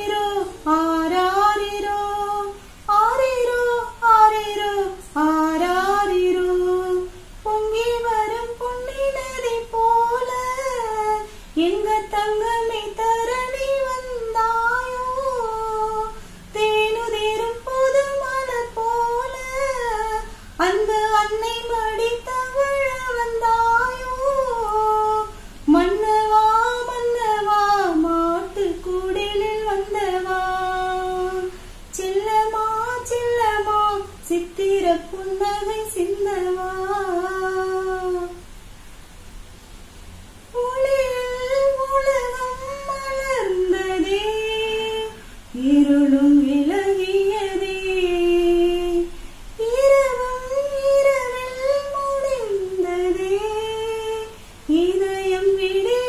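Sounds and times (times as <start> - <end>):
woman singing slow melody: 0.0 - 38.6, 40.4 - 56.0.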